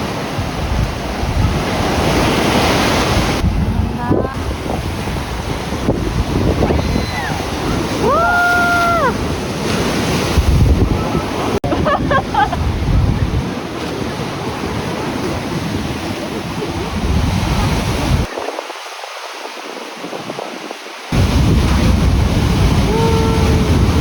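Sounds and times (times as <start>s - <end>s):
ocean surf on a beach: 0.0s - 24.0s
wind on microphone: 0.0s - 24.0s.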